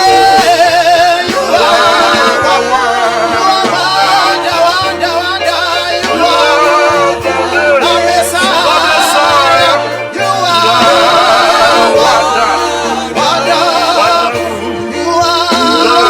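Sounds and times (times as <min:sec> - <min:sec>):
instrumental accompaniment with bass: 0:00.0 - 0:16.0
voices singing: 0:00.0 - 0:16.0.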